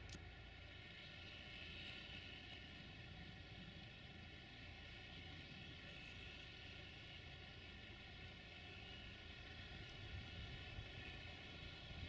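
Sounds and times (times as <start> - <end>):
distant diesel locomotive rumble: 0.0 - 12.0.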